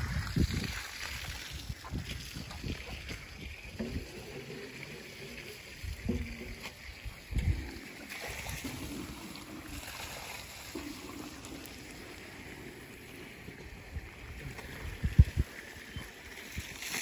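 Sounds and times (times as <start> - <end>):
hose water hissing: 0.0 - 17.0.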